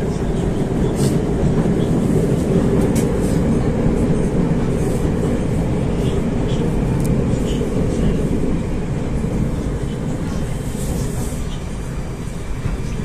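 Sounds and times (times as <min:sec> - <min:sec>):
metro car wheels rumbling: 0:00.0 - 0:13.0.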